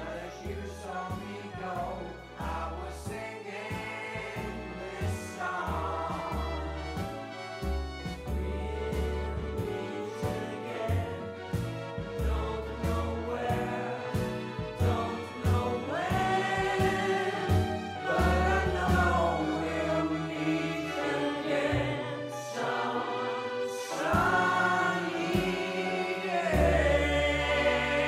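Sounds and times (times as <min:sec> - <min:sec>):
choir singing held notes: 0:00.0 - 0:07.8, 0:09.6 - 0:28.0
steady bass accompaniment: 0:00.0 - 0:28.0.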